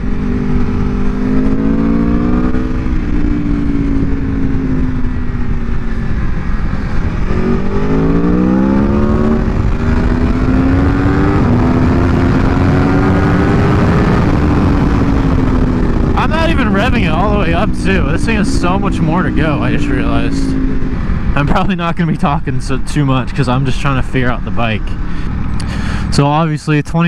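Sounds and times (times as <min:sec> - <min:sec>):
motorcycle engine revving: 0:00.0 - 0:21.8
wind rush on microphone: 0:00.0 - 0:22.4.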